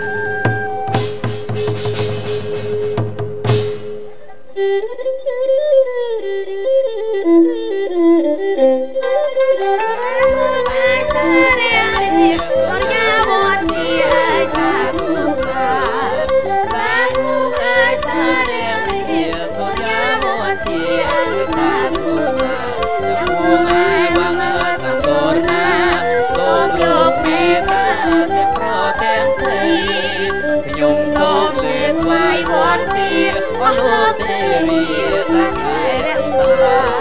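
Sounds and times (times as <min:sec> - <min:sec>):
hand drum beat: 0:00.0 - 0:04.2, 0:10.0 - 0:37.0
bowed fiddle sliding melody: 0:04.0 - 0:37.0.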